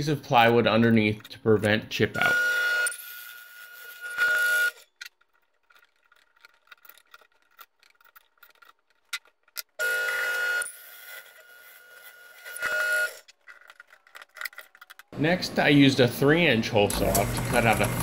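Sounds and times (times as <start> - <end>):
drill press whining: 2.2 - 18.0.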